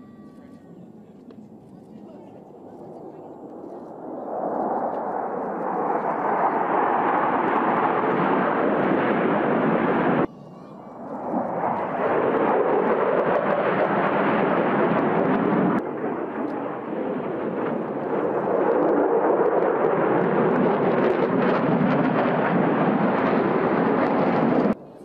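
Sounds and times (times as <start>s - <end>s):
fighter jet roaring past: 3.9s - 24.8s.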